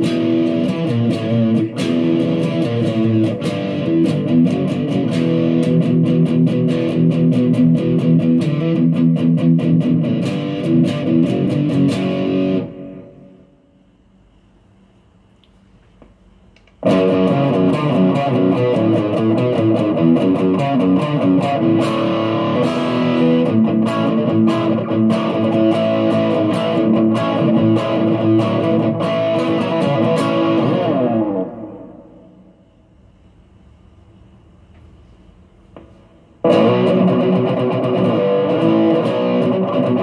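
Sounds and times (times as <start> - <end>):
distorted electric guitar riff: 0.0 - 13.5, 16.8 - 32.4, 36.4 - 40.0.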